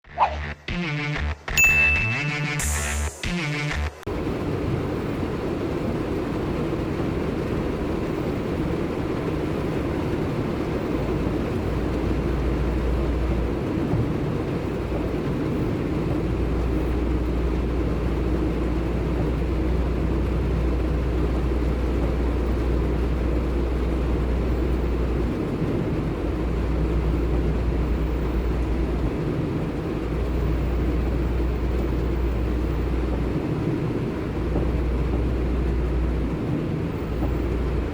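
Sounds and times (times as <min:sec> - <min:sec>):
road and rain noise: 0:04.0 - 0:37.9
low rumble: 0:04.1 - 0:37.9.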